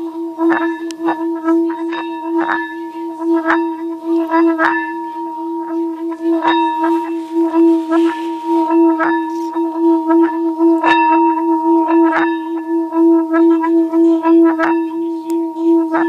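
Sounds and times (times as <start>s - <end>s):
singing bowl pulsing tone: 0.0s - 16.0s.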